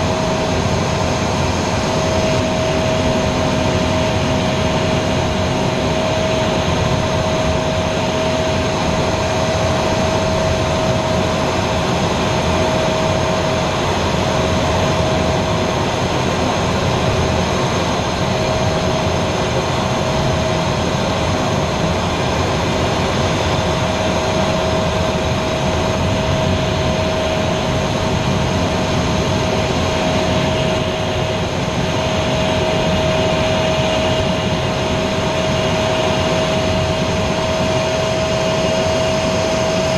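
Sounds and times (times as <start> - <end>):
jet engine running with whine: 0.0 - 39.9
rushing airflow: 0.0 - 39.9.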